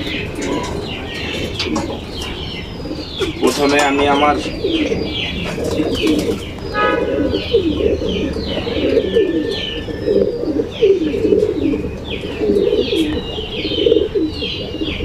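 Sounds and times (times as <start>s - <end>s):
high chirping calls: 0.0s - 15.0s
pigeons cooing: 0.0s - 15.0s.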